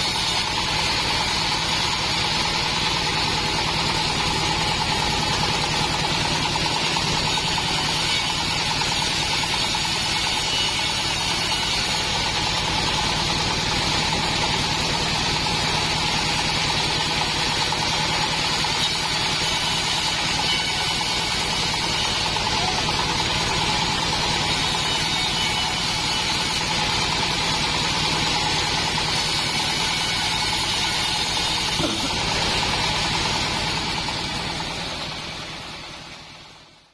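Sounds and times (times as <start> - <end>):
sawmill engine running steadily: 0.0 - 36.9.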